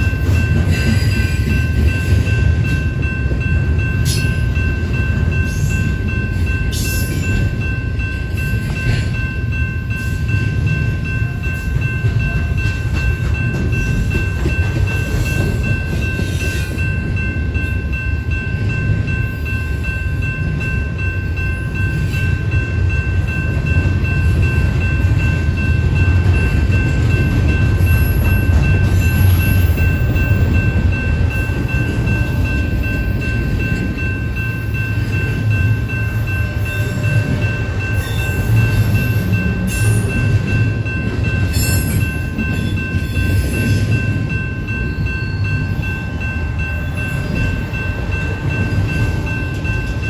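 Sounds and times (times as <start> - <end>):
train rumbling on rails: 0.0 - 50.0.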